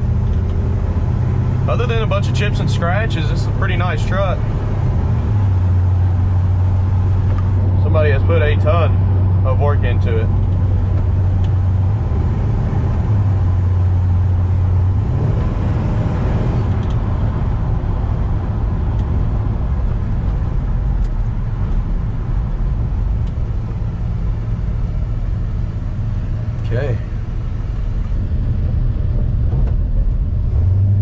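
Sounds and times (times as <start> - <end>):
road rumble: 0.0 - 31.0
truck engine running: 0.0 - 31.0.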